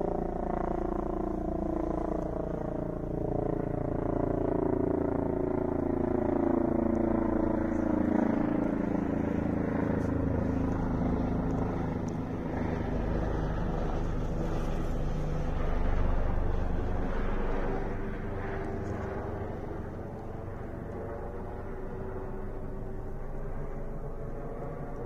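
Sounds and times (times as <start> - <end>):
helicopter flying overhead: 0.0 - 25.0.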